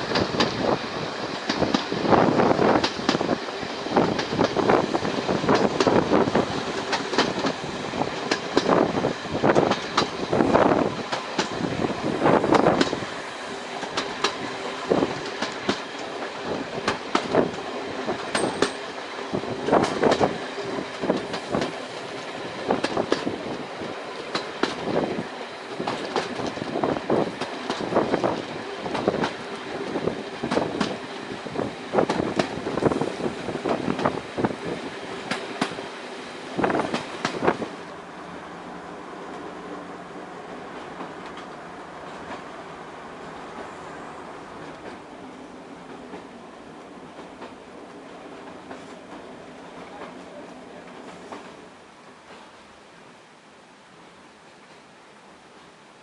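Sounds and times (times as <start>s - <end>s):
train wheels clattering on rails: 0.0s - 37.9s, 40.6s - 52.6s.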